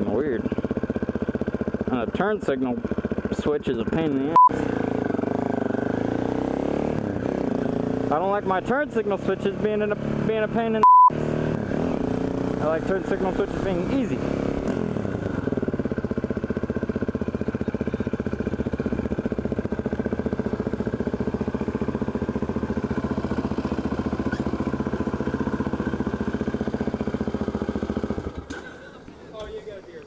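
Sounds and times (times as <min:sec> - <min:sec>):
motorcycle engine at low revs: 0:00.0 - 0:29.6.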